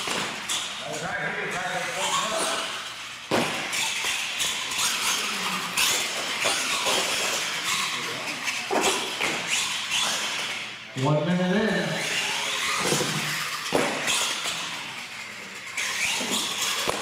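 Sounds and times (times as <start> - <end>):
toy truck motor and tyres: 0.0 - 17.0.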